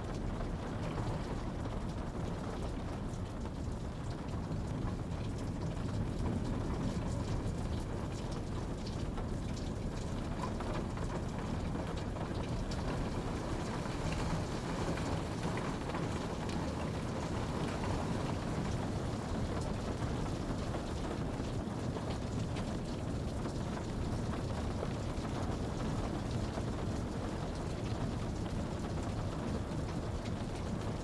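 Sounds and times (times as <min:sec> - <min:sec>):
rain falling: 0:00.0 - 0:31.0
raindrop ticks: 0:00.1 - 0:31.0.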